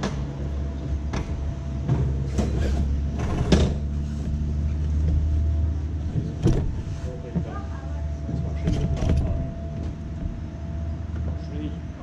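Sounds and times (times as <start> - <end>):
sled wheels rumbling on rails: 0.0 - 11.5.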